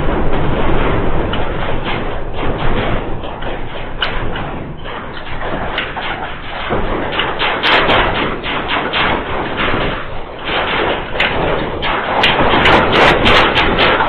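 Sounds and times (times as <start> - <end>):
heavy knocks: 0.0 - 14.0
objects and doors rattling: 0.0 - 14.0.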